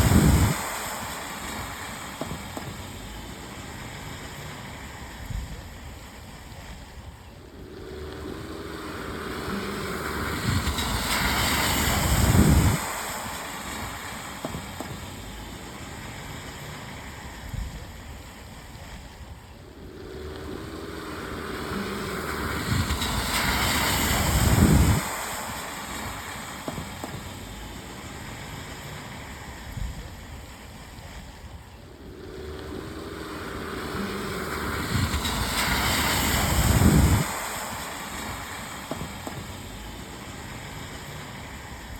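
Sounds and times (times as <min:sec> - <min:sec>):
cars passing on wet road: 0:00.0 - 0:41.9
rain hiss: 0:00.0 - 0:41.9.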